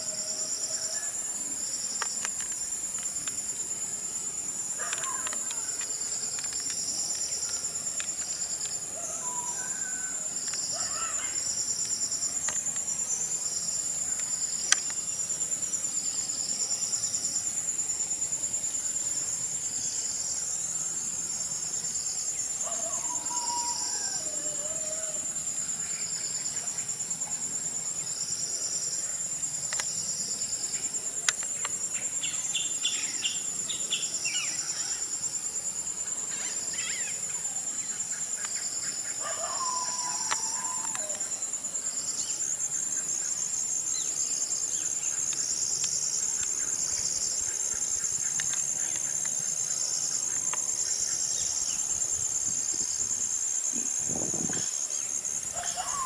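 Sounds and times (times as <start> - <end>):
insect chorus shrilling: 0.0 - 56.0
pulsing insect trill: 0.0 - 56.0.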